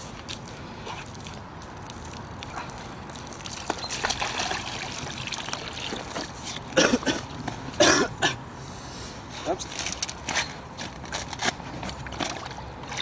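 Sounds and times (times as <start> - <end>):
water sloshing and trickling: 0.0 - 8.1, 9.7 - 13.0.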